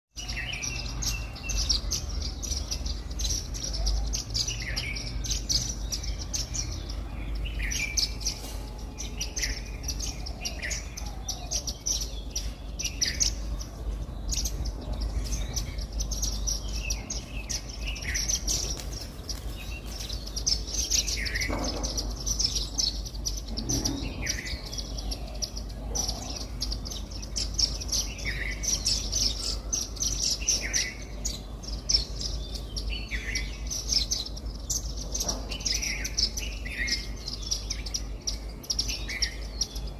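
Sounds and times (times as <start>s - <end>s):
birds chirping: 0.1s - 39.9s.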